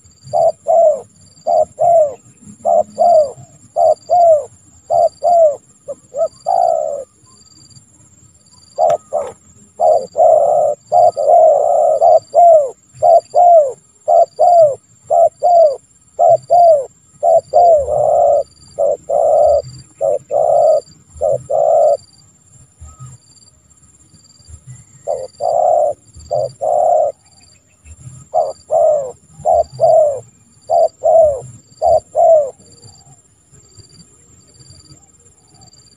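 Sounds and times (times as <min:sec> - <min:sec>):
dove cooing: 0:00.0 - 0:07.3, 0:08.6 - 0:22.2, 0:24.5 - 0:33.3.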